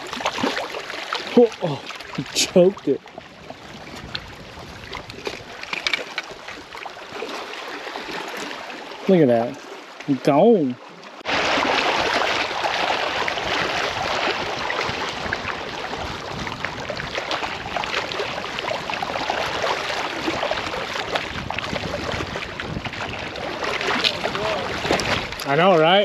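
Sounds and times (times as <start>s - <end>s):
small waves lapping against rocks: 0.0s - 26.0s.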